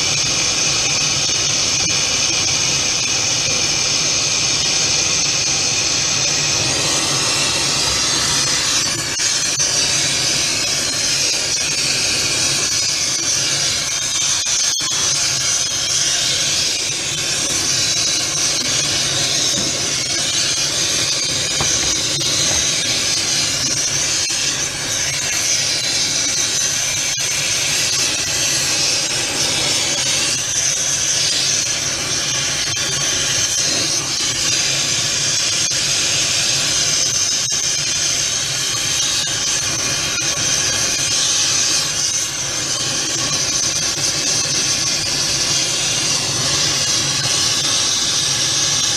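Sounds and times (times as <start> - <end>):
torch flame hissing: 0.1 - 48.9.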